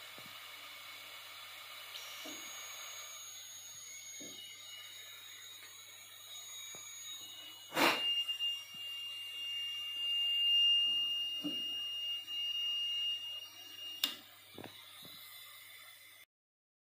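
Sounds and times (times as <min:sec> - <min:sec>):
high-pitched alarm buzzer: 0:01.9 - 0:16.2.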